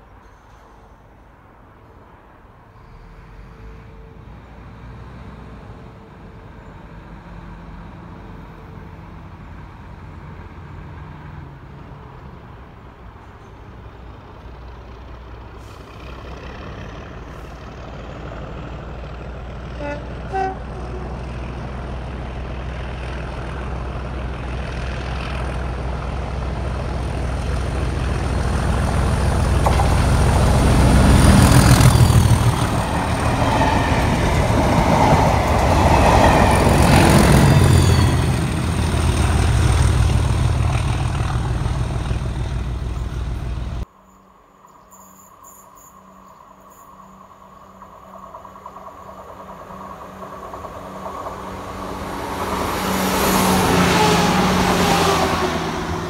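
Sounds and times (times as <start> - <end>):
diesel locomotive engine rumble: 0.0 - 43.9, 47.2 - 56.0.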